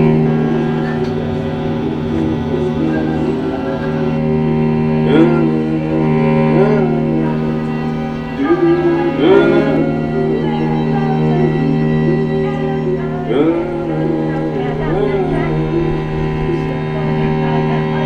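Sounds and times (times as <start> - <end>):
bowed string instruments: 0.0 - 18.0.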